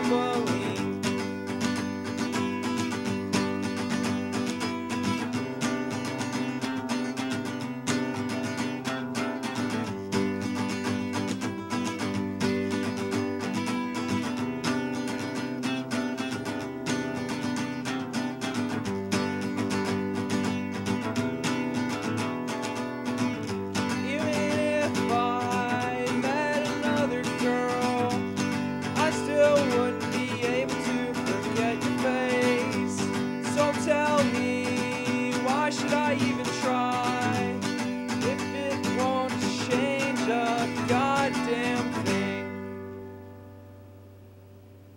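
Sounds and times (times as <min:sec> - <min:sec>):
acoustic guitar strumming chords: 0:00.0 - 0:44.9.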